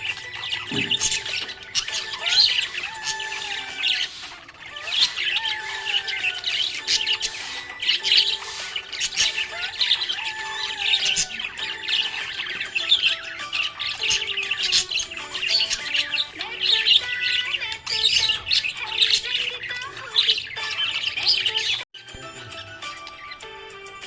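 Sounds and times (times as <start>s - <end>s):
budgerigar chirping and squawking: 0.0s - 21.8s.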